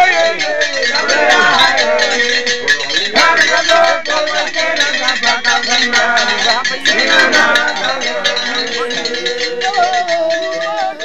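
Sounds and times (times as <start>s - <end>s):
light metallic percussion ticking: 0.0s - 11.0s
several voices singing: 0.0s - 11.0s.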